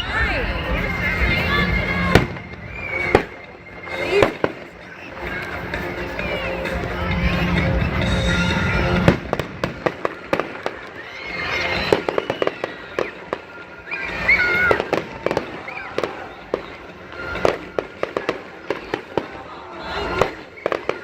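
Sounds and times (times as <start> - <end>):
fireworks popping and banging: 0.7 - 21.0.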